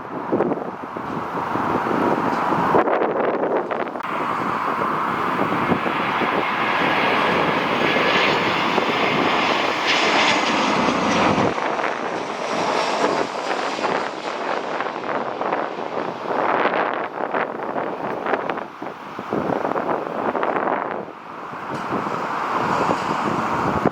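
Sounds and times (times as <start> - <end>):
jet engines passing: 0.0 - 23.9
wind buffeting microphone: 0.0 - 23.9.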